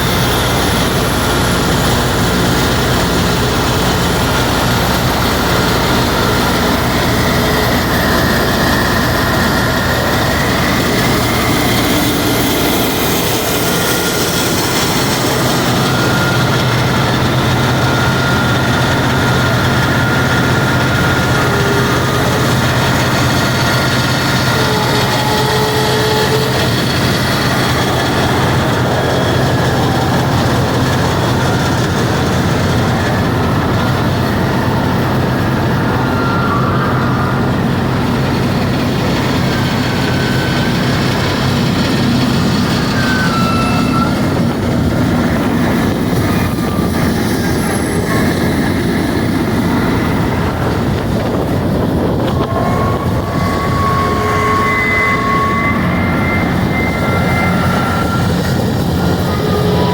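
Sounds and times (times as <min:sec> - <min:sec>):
drilling rig machinery din: 0:00.0 - 0:59.9
high machine squeals: 0:00.0 - 0:59.9.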